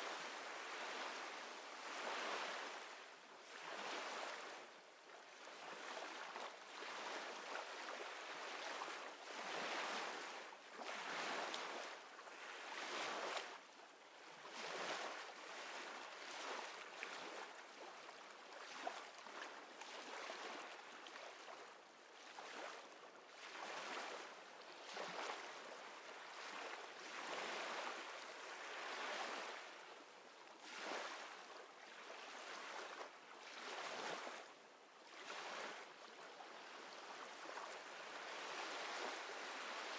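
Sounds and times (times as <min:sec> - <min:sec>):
faint sea waves: 0:00.0 - 0:39.9.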